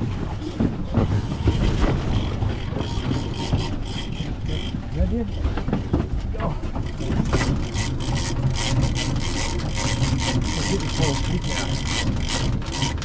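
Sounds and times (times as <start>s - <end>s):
fishing reel being cranked: 1.1s - 5.9s, 6.7s - 13.0s.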